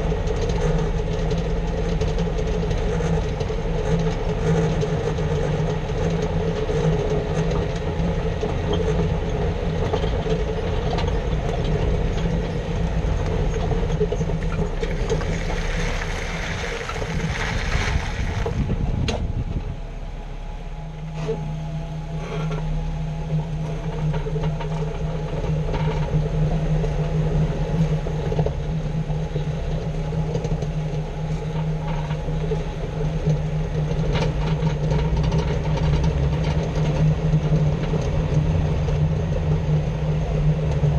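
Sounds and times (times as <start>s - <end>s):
vehicle running gear drone: 0.0s - 40.9s.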